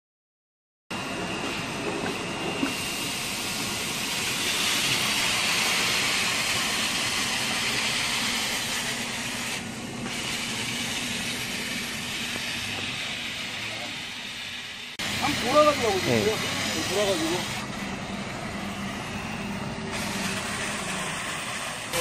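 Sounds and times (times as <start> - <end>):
floor scrubber motors hissing: 1.0 - 22.0.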